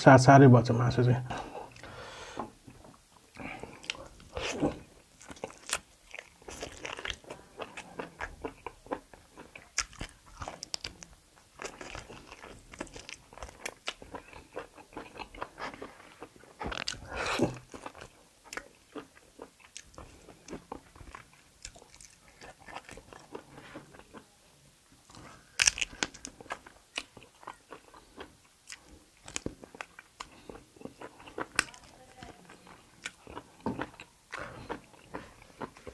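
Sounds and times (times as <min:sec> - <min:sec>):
person chewing meat: 0:01.4 - 0:24.2, 0:25.1 - 0:35.9.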